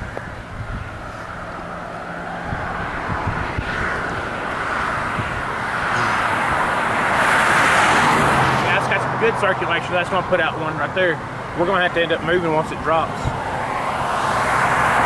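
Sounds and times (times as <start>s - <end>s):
highway traffic: 0.0s - 15.0s
vehicle approaching: 0.0s - 15.0s.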